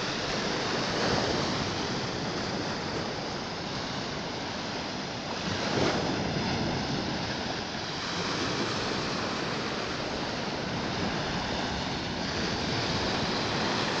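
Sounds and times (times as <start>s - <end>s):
small waves breaking on shore: 0.0s - 14.0s.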